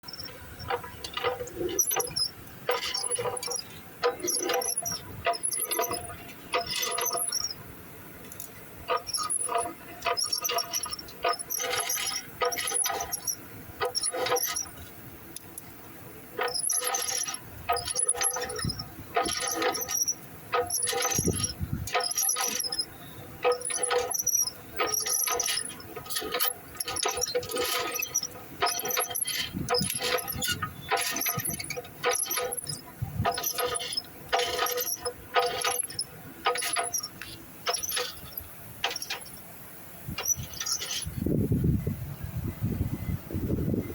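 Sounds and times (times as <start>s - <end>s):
truck gearbox squealing: 0.0s - 41.5s.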